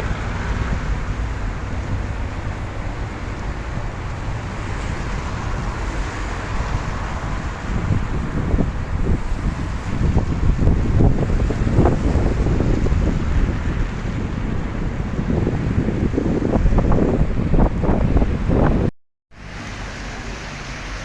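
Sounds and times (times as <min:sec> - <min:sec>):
rain: 0:00.0 - 0:18.0, 0:19.4 - 0:21.0
street traffic rumble: 0:00.0 - 0:21.0
wind buffeting microphone: 0:00.0 - 0:21.0.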